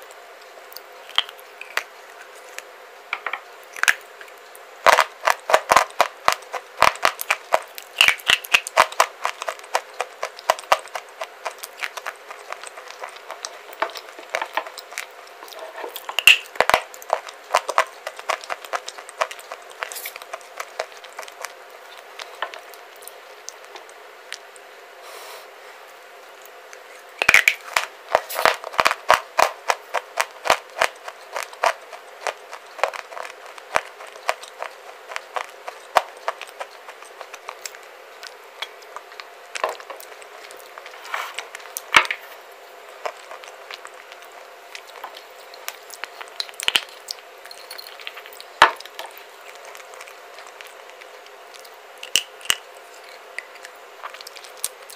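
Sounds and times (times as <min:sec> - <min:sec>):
crunchy chewing: 0:00.0 - 0:24.9, 0:25.8 - 0:54.9.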